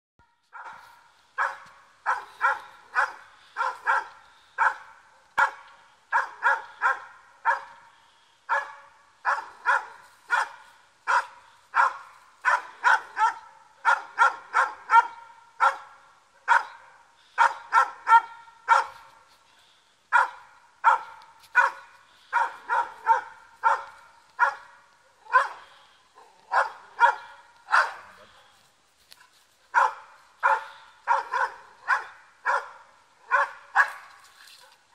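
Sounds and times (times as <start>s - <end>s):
dog barking: 0.5s - 7.9s, 8.5s - 19.1s, 20.1s - 28.6s, 29.7s - 34.8s.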